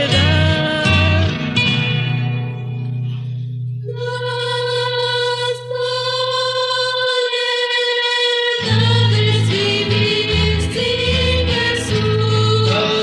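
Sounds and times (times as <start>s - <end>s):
vocal and guitar ensemble: 0.0s - 13.0s.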